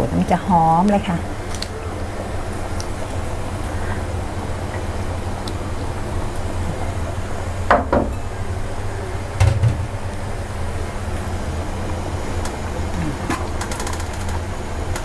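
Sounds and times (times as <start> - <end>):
gas burner rumbling: 0.0 - 15.0.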